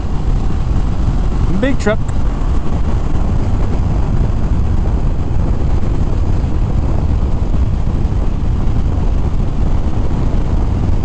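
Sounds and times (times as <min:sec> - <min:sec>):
motorcycle engine running: 0:00.0 - 0:11.0
wind rush on helmet microphone: 0:00.0 - 0:11.0.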